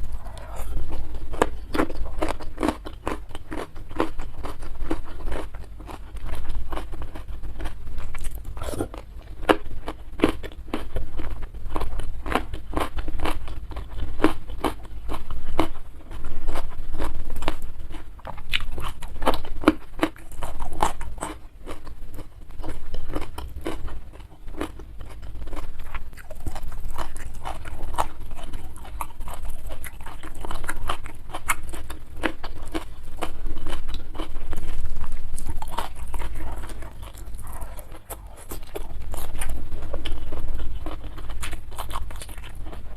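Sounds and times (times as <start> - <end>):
chewing and crunching food: 0.0 - 42.9.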